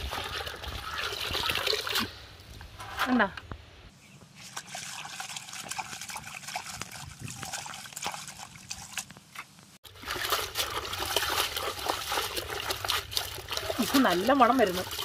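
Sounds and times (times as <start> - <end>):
water trickling and splashing: 0.0 - 2.3, 4.3 - 15.0.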